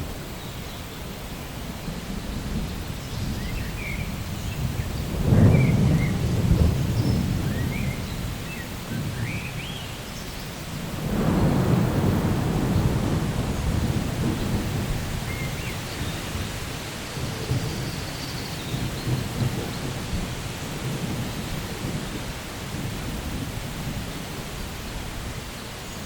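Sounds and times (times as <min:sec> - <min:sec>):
steady rain: 0:00.0 - 0:26.0
rumble of thunder: 0:01.7 - 0:25.4.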